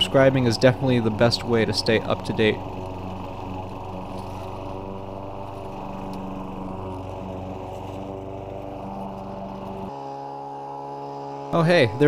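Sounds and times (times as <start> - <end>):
lawn mower engine running: 0.0 - 12.0
steady engine hum: 0.0 - 12.0.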